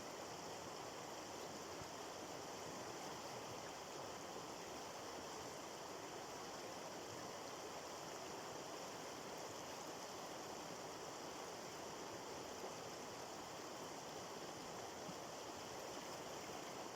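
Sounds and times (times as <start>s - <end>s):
water flowing in a stream: 0.0s - 16.9s.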